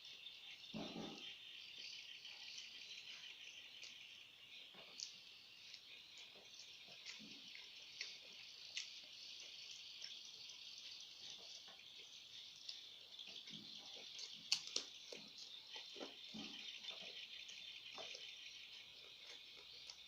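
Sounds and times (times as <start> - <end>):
person chewing food: 2.3 - 20.0.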